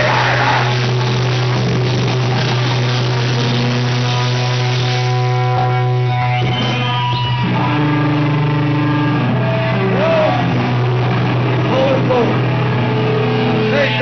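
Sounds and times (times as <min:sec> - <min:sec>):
electric guitars sustained notes: 0:00.0 - 0:14.0.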